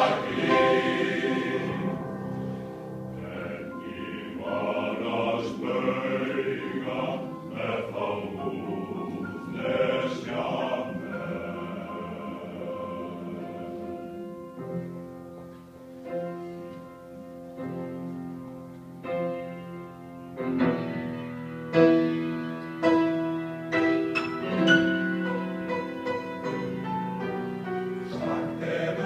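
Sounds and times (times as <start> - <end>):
piano chords ringing: 0.0 - 29.0.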